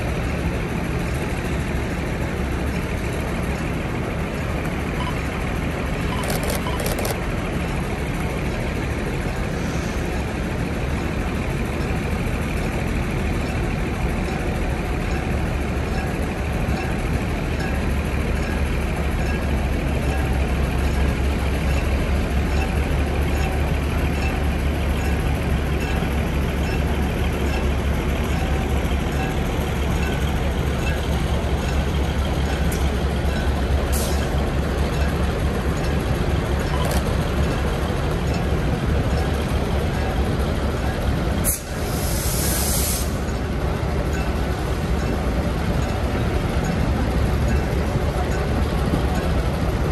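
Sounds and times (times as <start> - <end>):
diesel railcar engine rumble: 0.0 - 49.9.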